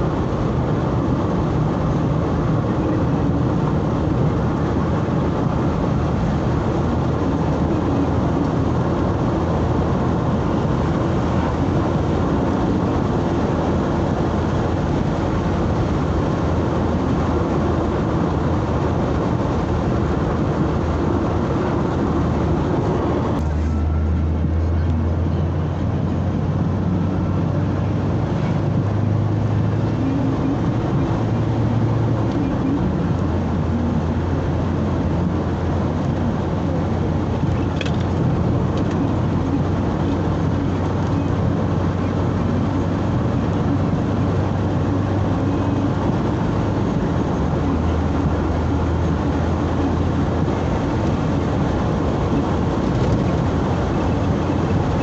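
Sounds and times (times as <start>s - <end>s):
low engine hum: 0.0s - 55.0s
tyre and wind noise: 0.0s - 55.0s.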